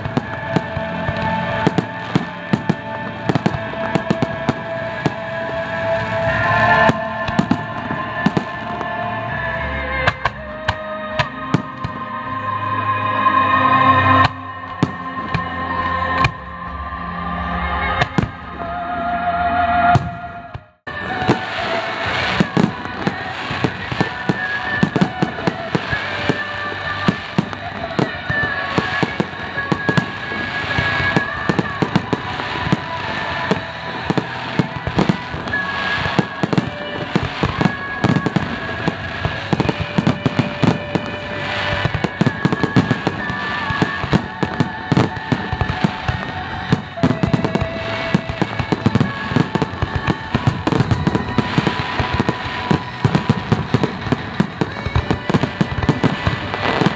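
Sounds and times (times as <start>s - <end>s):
fireworks bangs and crackles: 0.0s - 12.4s, 13.8s - 16.5s, 17.9s - 18.6s, 19.9s - 56.9s
music with long held notes: 0.0s - 56.9s.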